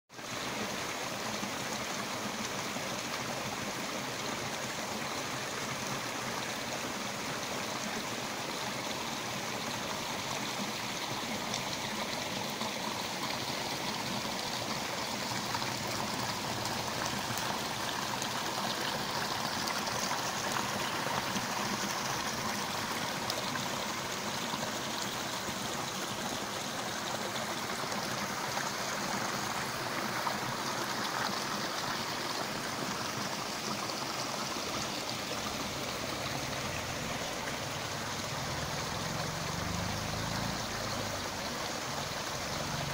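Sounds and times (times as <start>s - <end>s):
stream trickling over rocks: 0.1s - 42.9s.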